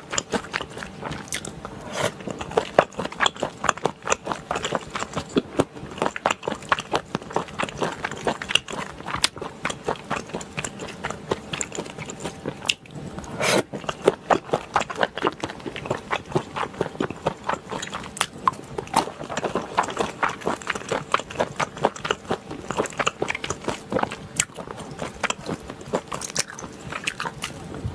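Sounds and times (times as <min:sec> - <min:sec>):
wet chewing and lip-smacking: 0:00.0 - 0:27.9.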